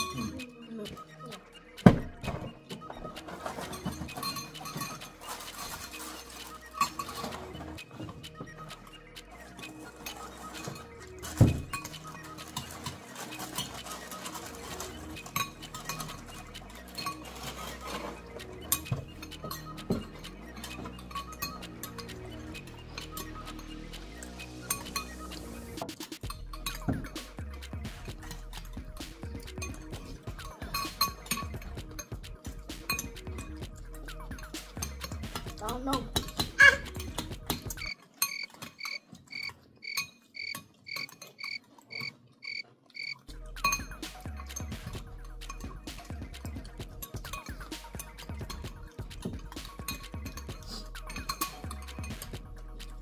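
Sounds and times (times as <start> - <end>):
spoons clinking on glass bowls: 0.0 - 1.6, 2.2 - 53.0.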